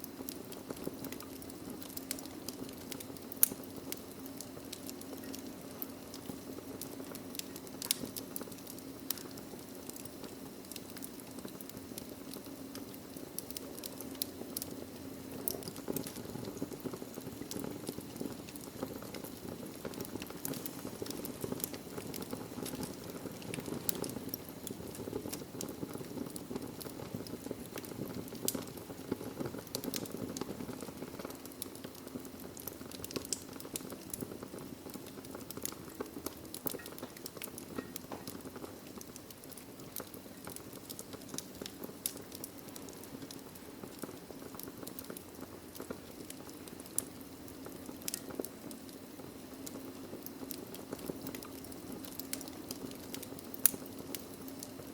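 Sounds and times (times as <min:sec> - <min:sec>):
logs crackling and popping: 0:00.0 - 0:54.9
flames rushing: 0:00.2 - 0:54.9.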